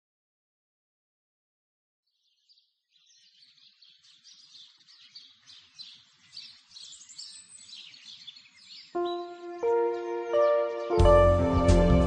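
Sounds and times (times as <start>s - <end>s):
birds chirping: 2.1s - 12.0s.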